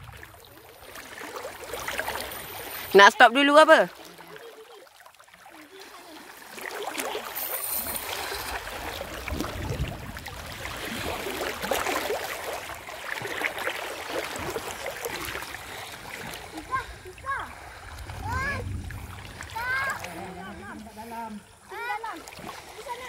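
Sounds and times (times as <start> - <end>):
stream water trickling: 0.0 - 23.0.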